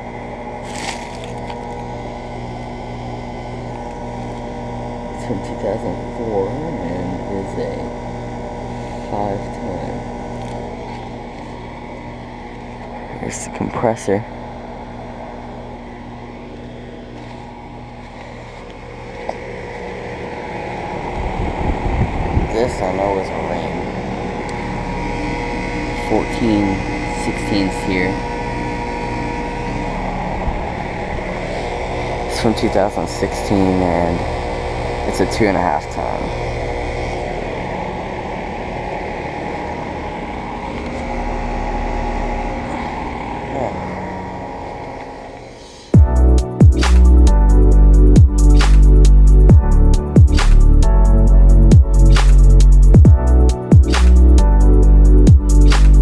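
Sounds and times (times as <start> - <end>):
air conditioner compressor humming: 0.0 - 56.0
outdoor fan rushing: 0.0 - 56.0.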